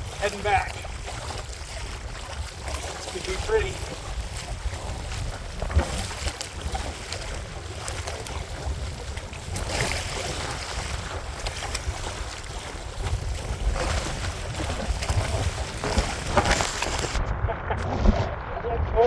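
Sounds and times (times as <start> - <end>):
water splashing against kayak: 0.0 - 19.0
wind buffeting microphone: 0.0 - 19.0.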